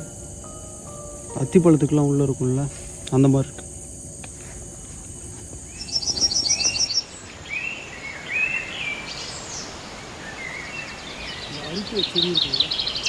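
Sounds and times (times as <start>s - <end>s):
background hiss: 0.0s - 13.0s
wild birds whistling: 0.0s - 13.0s.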